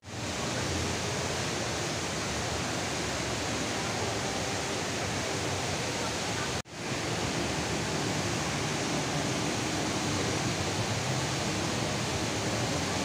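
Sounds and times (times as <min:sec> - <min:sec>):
indoor waterfall pouring: 0:00.0 - 0:13.0.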